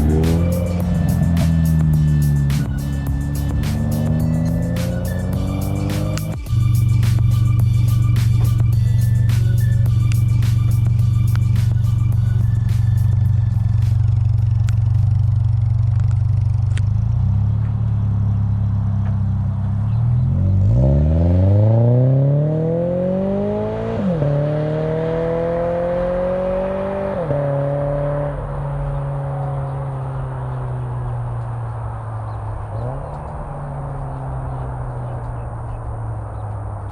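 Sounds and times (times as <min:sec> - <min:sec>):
car engine accelerating and shifting: 0:00.0 - 0:36.9.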